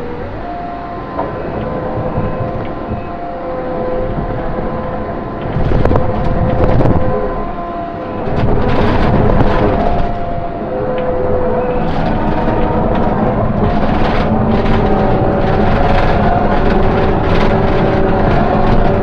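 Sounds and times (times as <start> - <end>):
skid steer engine whining: 0.0 - 19.0.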